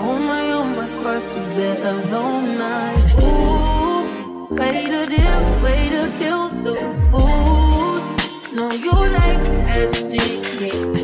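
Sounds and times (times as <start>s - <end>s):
person singing: 0.0s - 11.0s.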